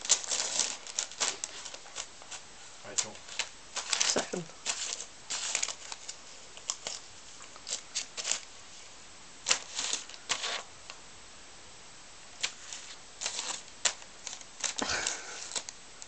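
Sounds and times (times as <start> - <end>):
cat tearing at paper: 0.0 - 8.5, 9.4 - 10.7, 12.4 - 15.8
newspaper crackling and rustling: 0.0 - 8.8, 9.4 - 11.0, 12.3 - 15.8.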